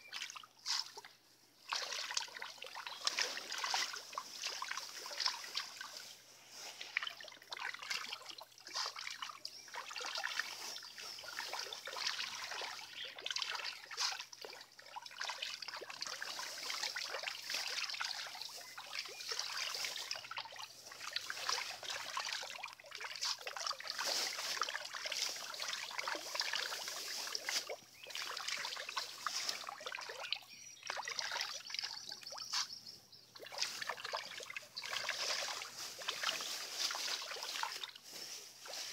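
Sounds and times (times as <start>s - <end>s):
fish splashing at water surface: 0.1s - 32.7s, 33.4s - 38.0s.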